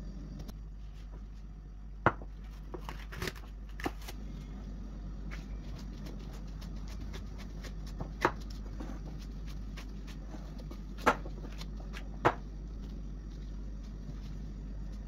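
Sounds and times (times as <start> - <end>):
hands kneading dough: 0.6 - 15.0.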